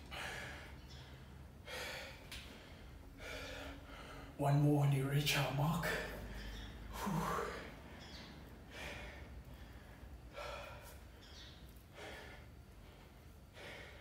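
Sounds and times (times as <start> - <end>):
man breathing hard: 0.0 - 4.4, 5.9 - 14.0.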